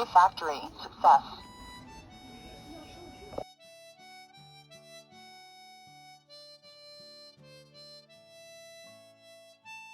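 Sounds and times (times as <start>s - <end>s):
quiet background music: 0.0s - 9.9s.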